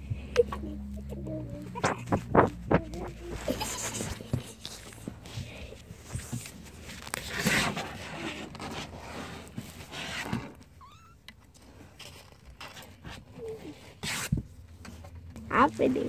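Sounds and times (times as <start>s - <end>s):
kittens scuffling on carpet: 0.1s - 16.0s.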